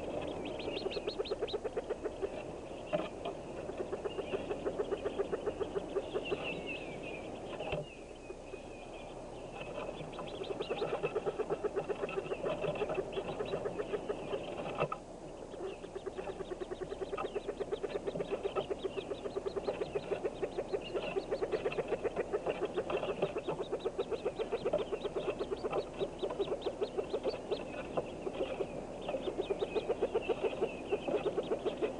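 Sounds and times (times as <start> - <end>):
ducks clucking: 0.0 - 8.7, 9.4 - 31.9
ducklings peeping: 0.0 - 31.9.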